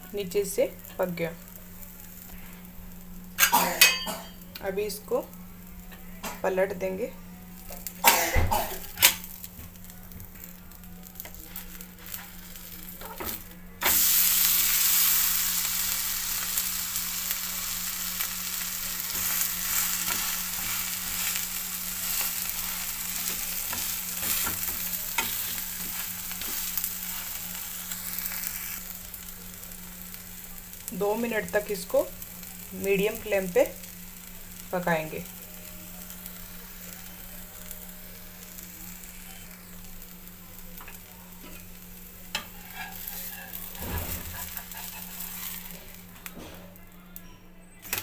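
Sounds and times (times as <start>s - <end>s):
food sizzling in a pan: 0.0s - 46.4s.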